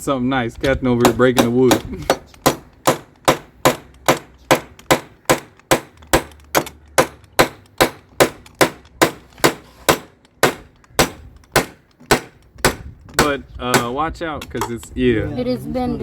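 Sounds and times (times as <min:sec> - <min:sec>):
hammer hitting nail into wood: 0:01.0 - 0:14.0.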